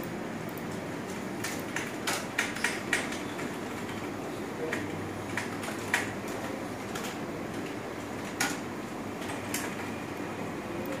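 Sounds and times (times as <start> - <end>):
keyboard and mouse clicks: 0.0 - 9.9
steady room hum: 0.0 - 11.0.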